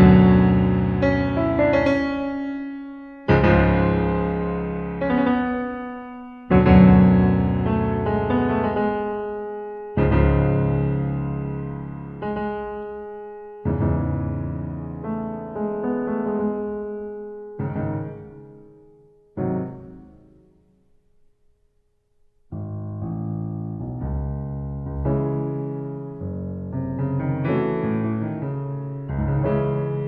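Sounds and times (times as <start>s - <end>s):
slow solo piano chords: 0.0s - 20.6s, 22.5s - 30.0s.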